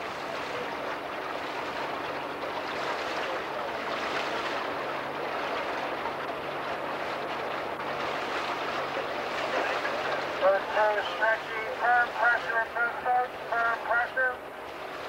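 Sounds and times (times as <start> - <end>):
outboard engine humming: 0.0 - 15.0
water rushing: 0.0 - 15.0.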